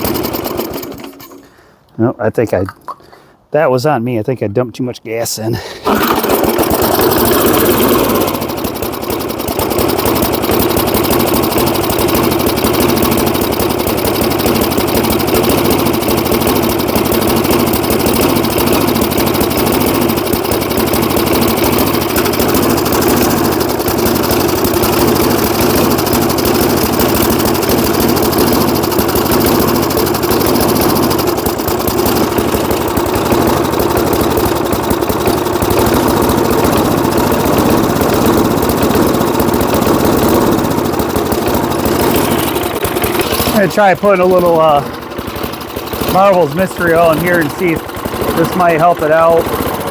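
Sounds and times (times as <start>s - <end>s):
push mower engine running: 0.0s - 1.8s, 5.6s - 49.9s.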